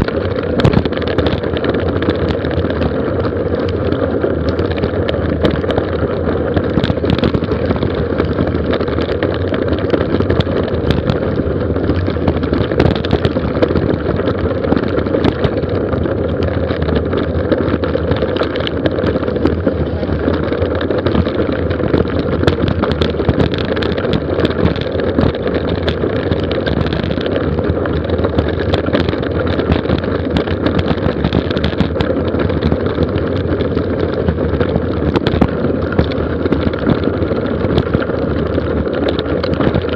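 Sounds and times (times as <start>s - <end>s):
bike clicks and rattles: 0.0s - 39.9s
tyres rolling over gravel: 0.0s - 39.9s
wind rushing on microphone: 0.0s - 39.9s.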